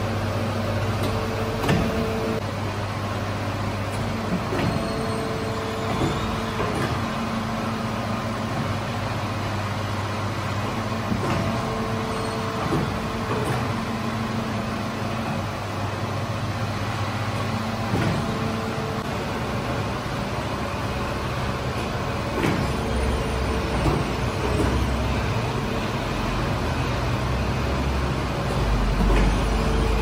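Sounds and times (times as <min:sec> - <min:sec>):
dough machine motor hum and rattle: 0:00.0 - 0:30.0.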